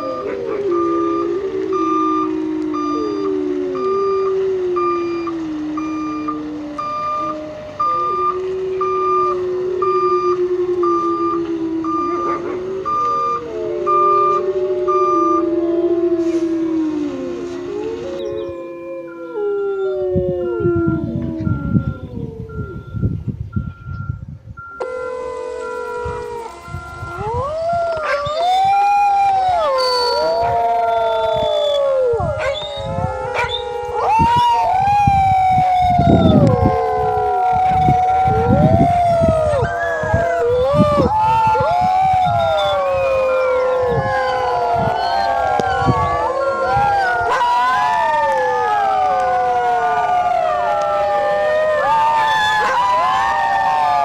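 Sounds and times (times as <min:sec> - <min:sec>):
canines howling: 0:00.0 - 0:23.1, 0:24.8 - 0:54.0
vehicle reversing alarm beeping: 0:00.0 - 0:54.0.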